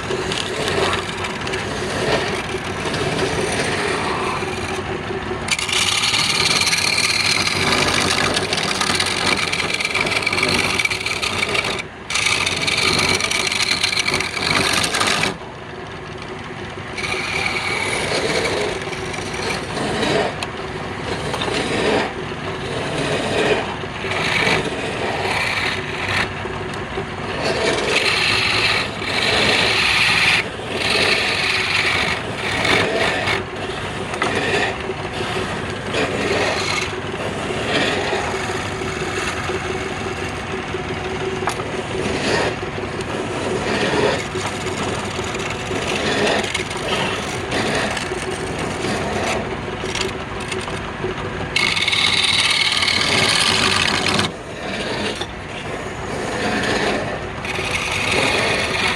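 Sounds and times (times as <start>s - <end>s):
tool scraping spinning wood: 0.0s - 58.9s
wood lathe motor hum: 0.0s - 58.9s.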